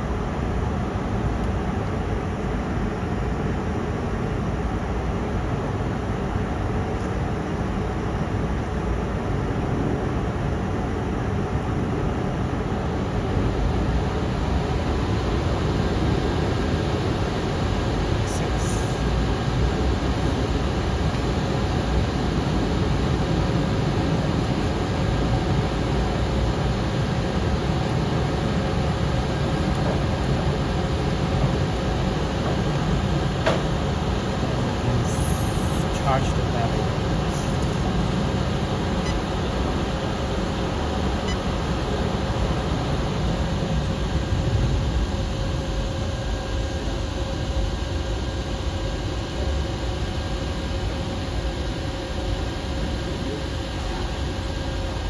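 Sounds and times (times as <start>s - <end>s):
air conditioner fan running: 0.0s - 55.0s
faint hum: 0.0s - 55.0s.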